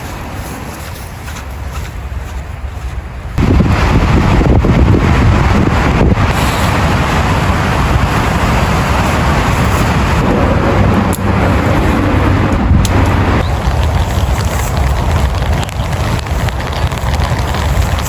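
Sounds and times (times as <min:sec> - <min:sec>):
strong wind: 0:00.0 - 0:18.0
wind buffeting microphone: 0:00.0 - 0:18.0
heavy rain: 0:03.4 - 0:18.0.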